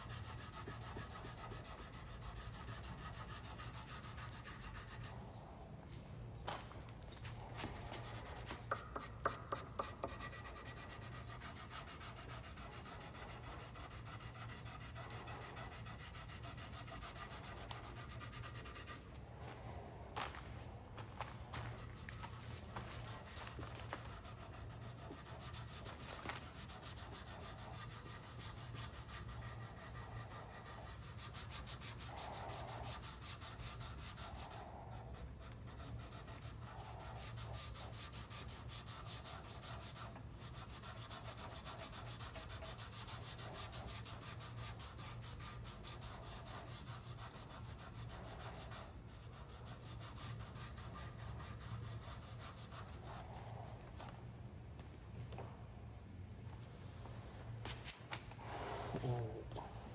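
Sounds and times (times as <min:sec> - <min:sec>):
sandpaper sanding: 0:00.0 - 0:05.2, 0:07.5 - 0:19.1, 0:21.6 - 0:53.6
steady low hum: 0:00.0 - 0:59.9.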